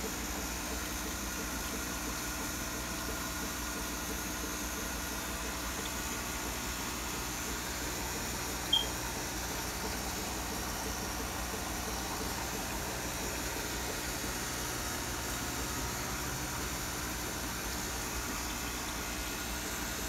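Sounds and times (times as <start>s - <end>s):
aquarium equipment hiss and hum: 0.0s - 20.0s.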